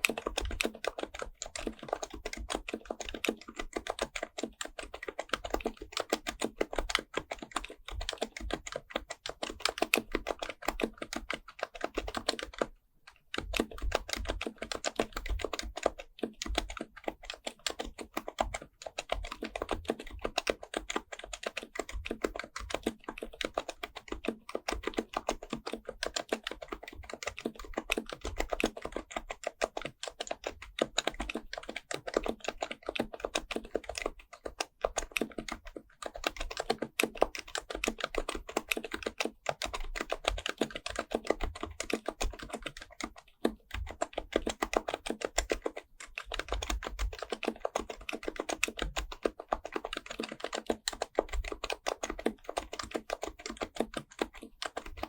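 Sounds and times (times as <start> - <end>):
fast keyboard typing: 0.0 - 55.0.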